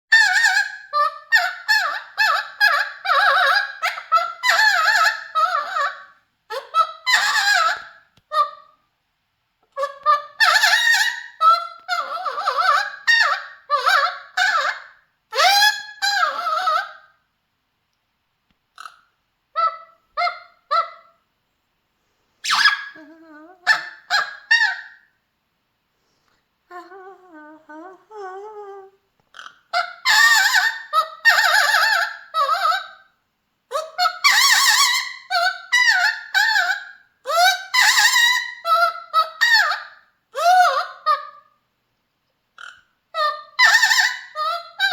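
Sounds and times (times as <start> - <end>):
parrot singing: 0.1 - 8.8, 9.8 - 17.2, 18.8 - 21.2, 22.4 - 25.1, 26.7 - 41.6, 42.6 - 44.9.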